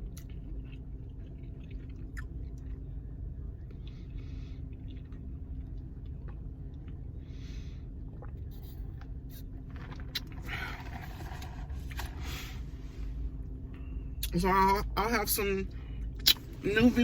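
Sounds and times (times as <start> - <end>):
faint hum: 0.0 - 17.0
low rumble: 0.0 - 17.0.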